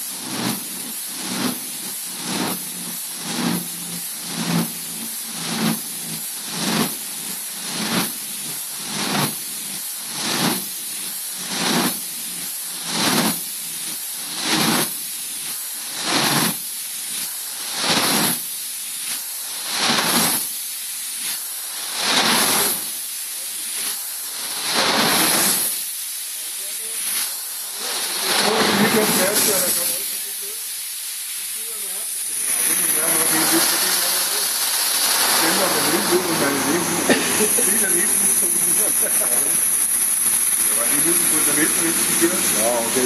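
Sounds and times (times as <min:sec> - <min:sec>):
engine puffing hissing air: 0:00.0 - 0:43.0.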